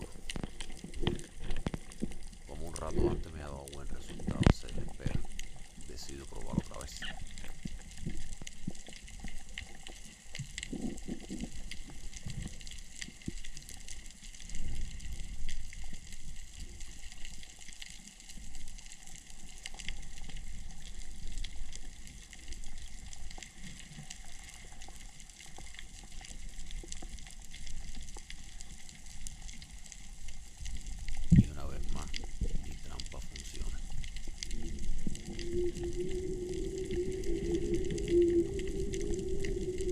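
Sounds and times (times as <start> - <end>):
faint scattered clicks and crackles: 0.0 - 39.9
underwater rumble of moving water: 0.0 - 39.9.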